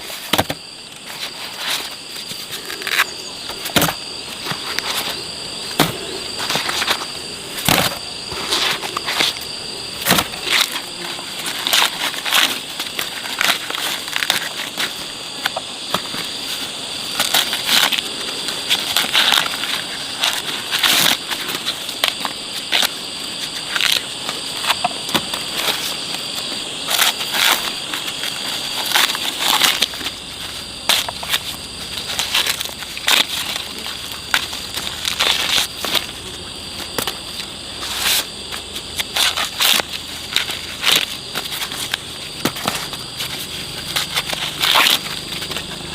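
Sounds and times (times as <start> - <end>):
dry plants crunching: 0.0 - 45.9
high insect buzz: 0.0 - 45.9.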